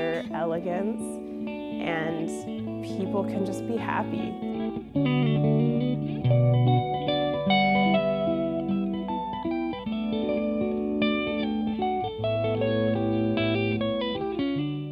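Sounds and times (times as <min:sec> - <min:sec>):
plucked-string notes: 0:00.0 - 0:14.9.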